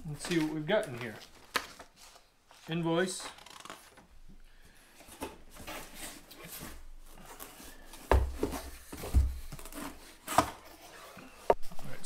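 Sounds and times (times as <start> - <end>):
cardboard and paper rustling: 0.0 - 4.1, 5.0 - 12.0.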